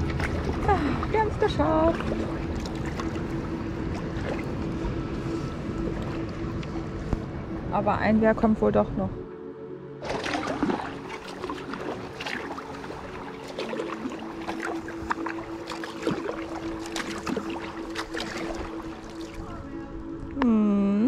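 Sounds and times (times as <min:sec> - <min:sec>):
paddle splashing in river: 0:00.0 - 0:07.3, 0:10.0 - 0:19.8.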